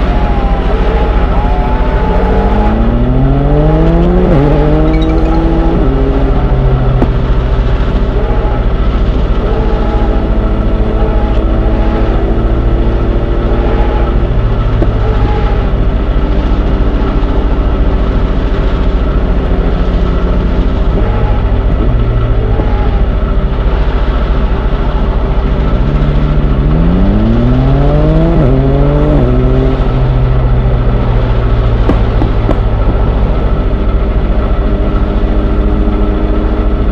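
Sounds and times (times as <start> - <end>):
train engine droning and revving: 0.0 - 36.9.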